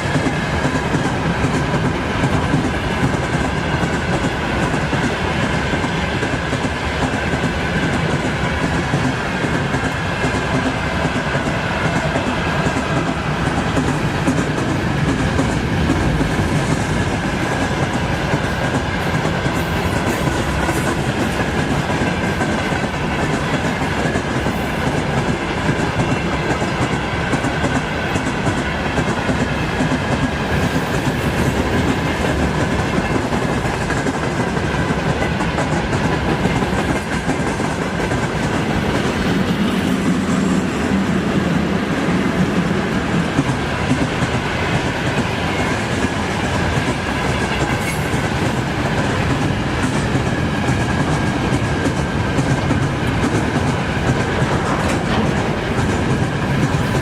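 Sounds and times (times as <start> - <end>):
train wheels clacking on rails: 0.0 - 57.0.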